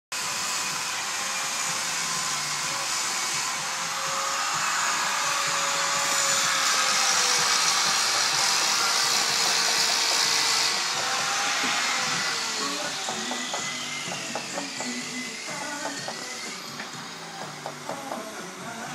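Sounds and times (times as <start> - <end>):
power tool whirring on stone: 0.2 - 18.9.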